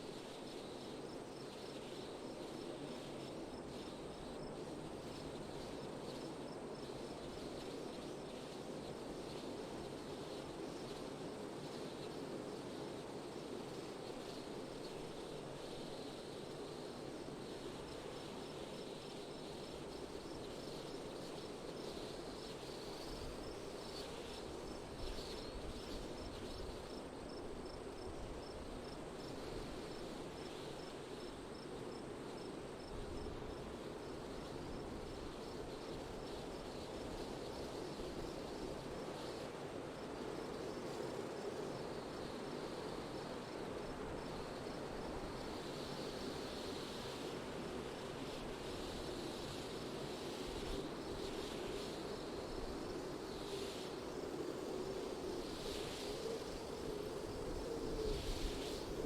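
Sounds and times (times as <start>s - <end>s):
wind: 0.0s - 59.0s.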